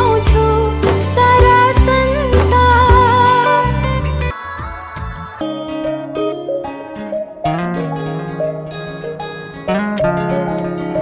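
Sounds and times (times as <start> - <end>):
plucked string music: 0.0 - 4.3, 5.0 - 11.0.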